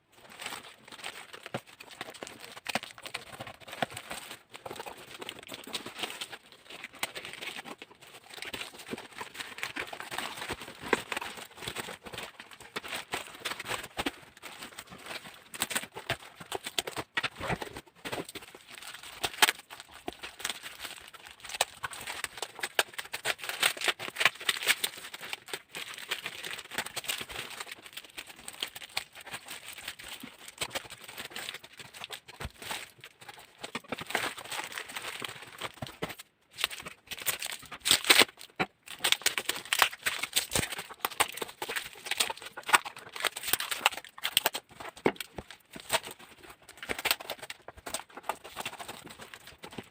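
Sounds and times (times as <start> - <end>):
packaging rustling and crinkling: 0.1 - 49.9.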